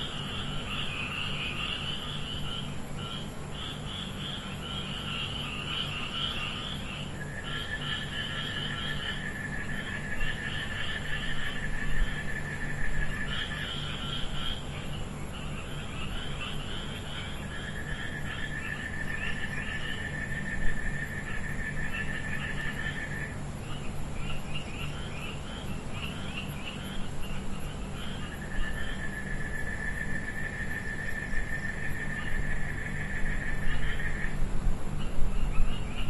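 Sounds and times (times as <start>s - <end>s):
high steady insect trill: 0.0s - 36.0s.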